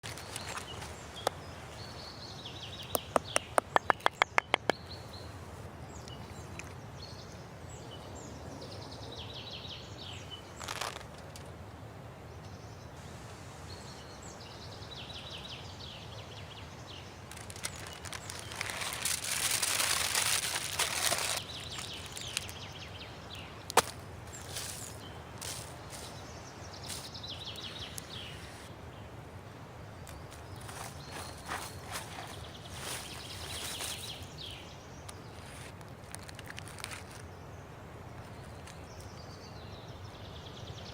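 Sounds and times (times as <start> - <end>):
small birds chirping: 0.0 - 11.3, 13.7 - 29.1, 29.8 - 40.9.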